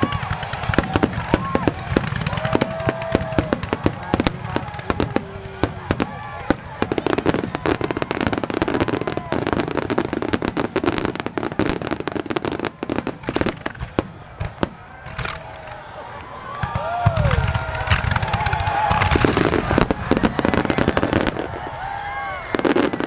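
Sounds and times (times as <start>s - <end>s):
fireworks booms and rumbling: 0.0s - 23.0s
fireworks crackling pops: 0.0s - 23.0s.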